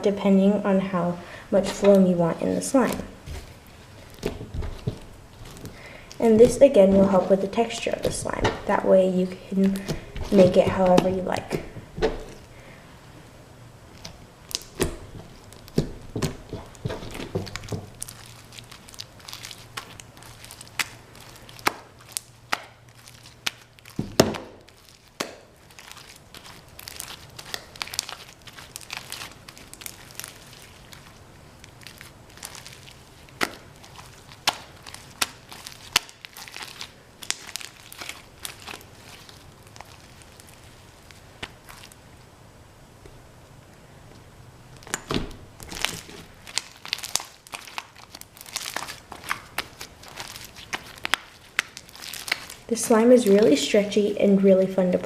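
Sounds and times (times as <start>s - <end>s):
slime crackling and popping: 1.6s - 12.6s, 13.9s - 42.3s, 44.7s - 53.9s.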